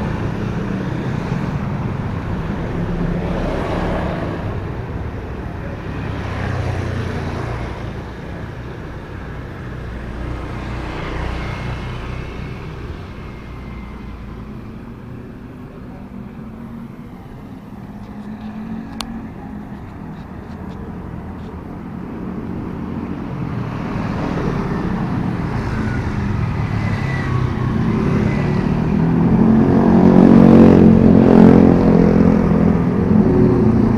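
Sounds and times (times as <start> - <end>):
car engine passing close: 0.0 - 33.9
road traffic: 0.0 - 33.9.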